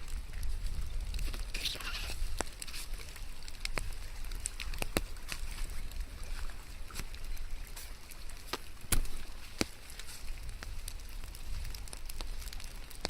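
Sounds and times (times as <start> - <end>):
raindrops ticking and dripping: 0.0 - 13.0.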